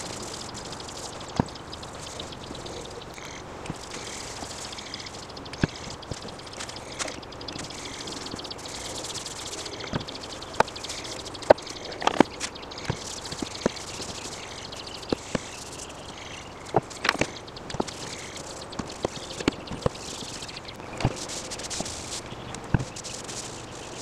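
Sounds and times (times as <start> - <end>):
birds: 0.0 - 24.0
insects chirping: 0.0 - 24.0.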